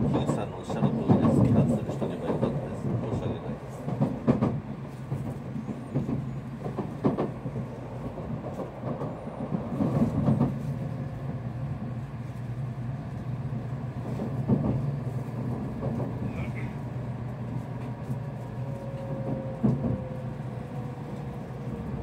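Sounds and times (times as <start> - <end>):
train cabin hum: 0.0 - 22.0.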